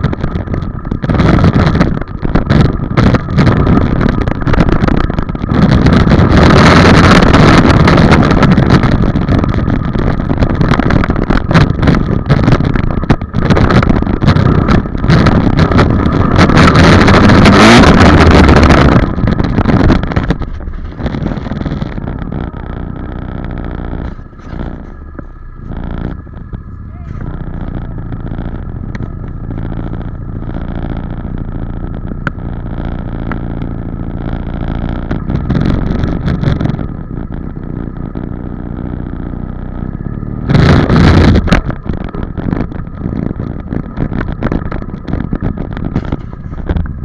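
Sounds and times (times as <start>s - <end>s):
dirt bike engine: 0.0s - 47.0s.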